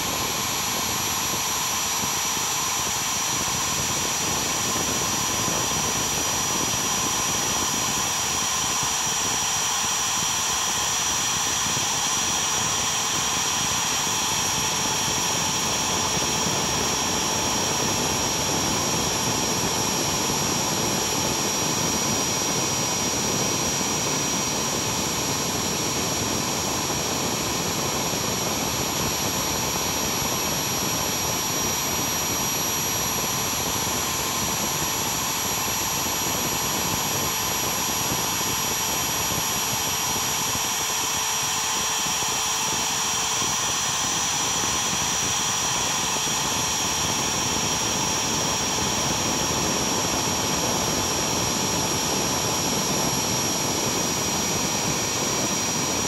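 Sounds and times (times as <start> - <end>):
spindle motor high whine: 0.0 - 56.0.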